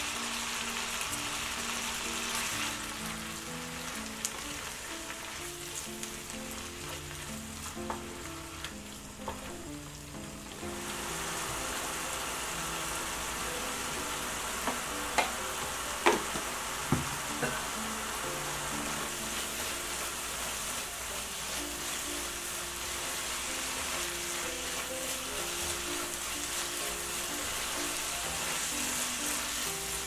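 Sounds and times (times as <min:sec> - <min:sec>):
food sizzling in hot oil: 0:00.0 - 0:30.0
light background music: 0:00.0 - 0:30.0.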